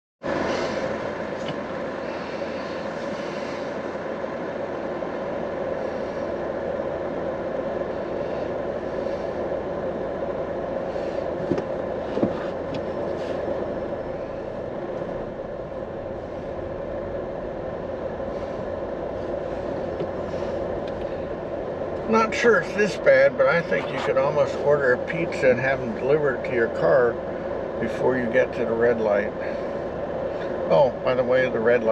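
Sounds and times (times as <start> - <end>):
city traffic noise: 0.2 - 31.9.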